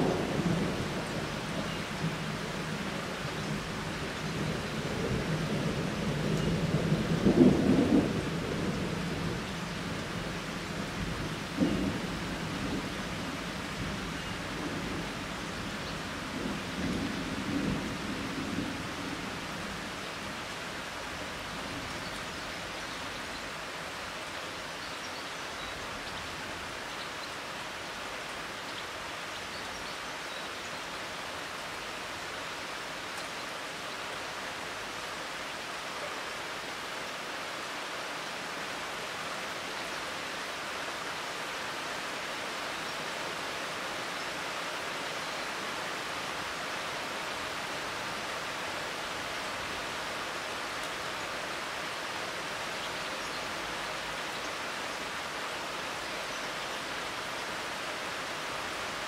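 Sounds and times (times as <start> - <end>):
rain falling on leafy trees: 0.0 - 59.0.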